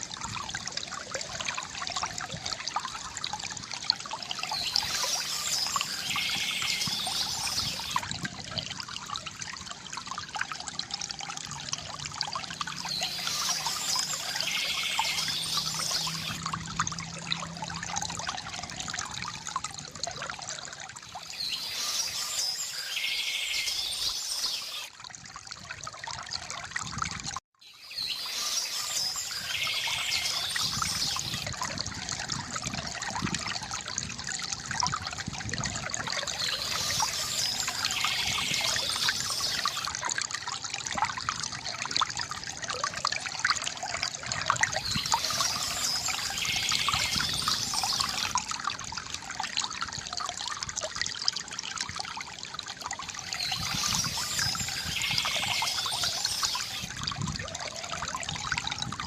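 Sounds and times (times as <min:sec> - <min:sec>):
stream trickling over stones: 0:00.0 - 0:59.0.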